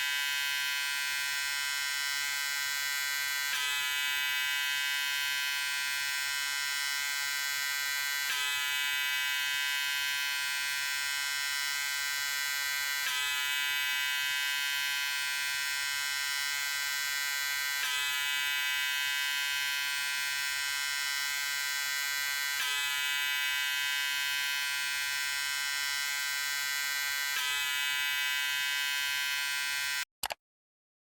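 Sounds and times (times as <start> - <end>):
electric shaver buzzing: 0.0 - 30.1.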